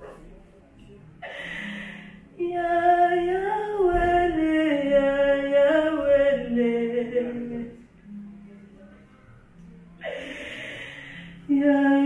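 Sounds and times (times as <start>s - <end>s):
person singing slow melody: 1.2s - 8.7s, 9.6s - 12.0s.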